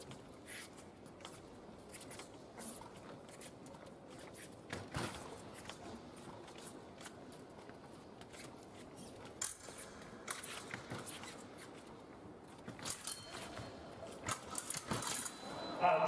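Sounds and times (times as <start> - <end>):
fencing blades clicking and scraping: 0.0 - 16.0.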